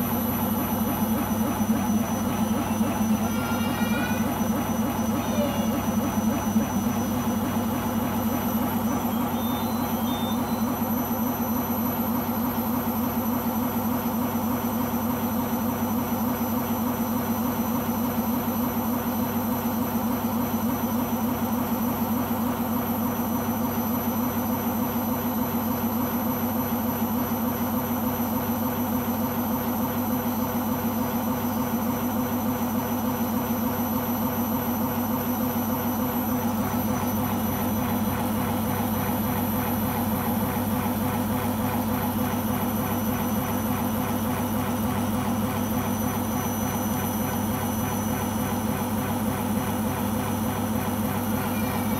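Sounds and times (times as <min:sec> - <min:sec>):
washing machine droning and pulsing: 0:00.0 - 0:51.9.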